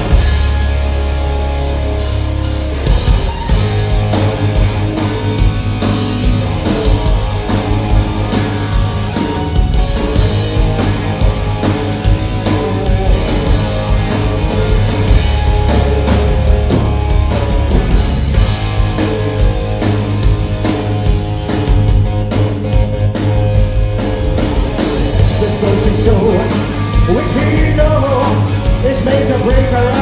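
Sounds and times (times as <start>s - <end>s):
bass: 0.0s - 30.0s
drums: 0.0s - 30.0s
electric guitar: 0.0s - 30.0s.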